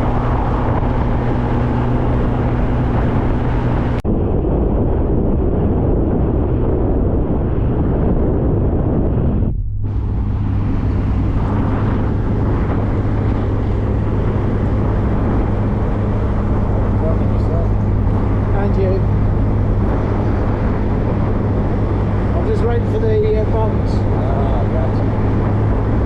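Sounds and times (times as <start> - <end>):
car engine running: 0.0 - 4.0, 8.4 - 26.0
wind and road noise: 0.0 - 26.0.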